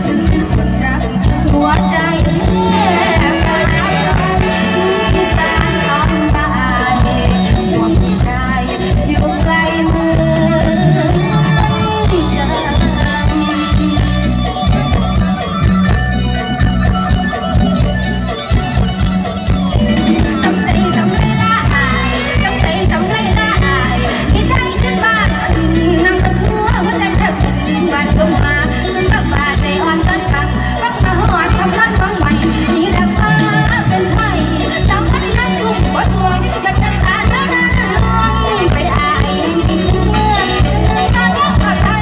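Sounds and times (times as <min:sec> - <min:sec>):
woman singing: 0:00.0 - 0:14.9, 0:19.7 - 0:42.0
drum and bass beat: 0:00.0 - 0:42.0
live band music through a pa: 0:00.0 - 0:42.0.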